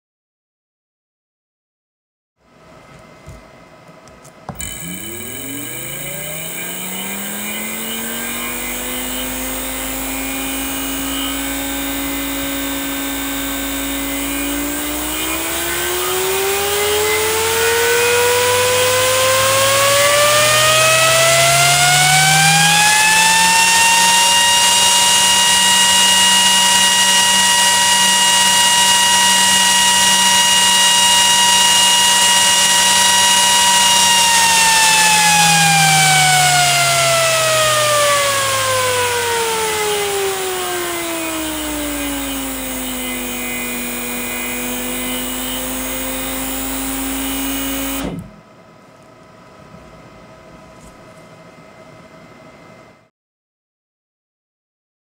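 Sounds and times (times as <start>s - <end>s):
fan whine and air rush: 4.4s - 53.0s.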